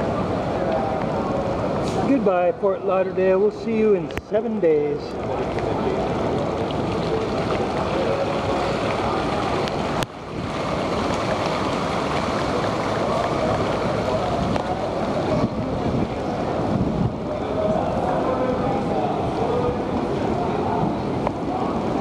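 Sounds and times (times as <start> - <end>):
murmur of distant voices: 0.0 - 22.0
steady rushing noise: 3.8 - 22.0.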